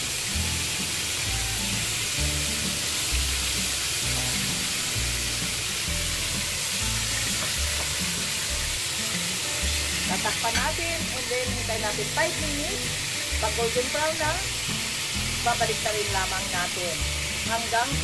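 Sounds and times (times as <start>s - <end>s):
background music with bass line: 0.0s - 18.0s
squid sizzling in oil: 0.0s - 18.0s.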